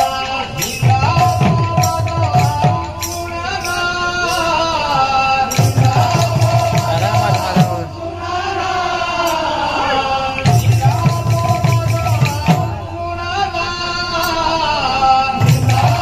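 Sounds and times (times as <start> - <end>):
steady cymbal beat: 0.0 - 13.2
person singing devotional line: 0.0 - 16.0.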